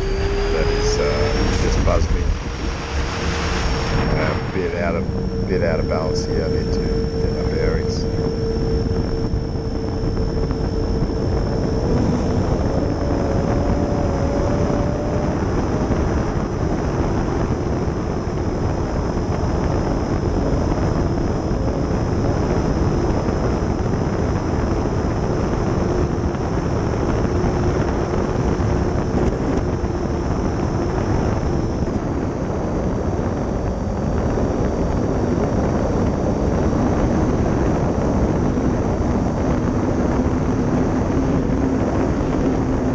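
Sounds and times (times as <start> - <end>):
electric ducted fans whining: 0.0 - 42.9.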